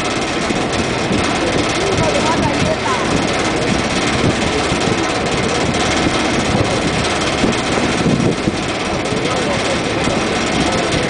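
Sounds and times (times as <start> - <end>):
boat engine running: 0.0 - 11.0
constant rushing noise: 0.0 - 11.0.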